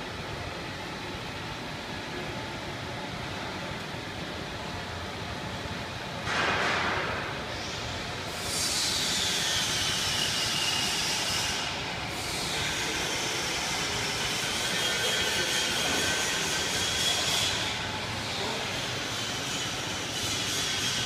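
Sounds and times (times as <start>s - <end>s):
drying oven rushing noise: 0.0s - 21.0s.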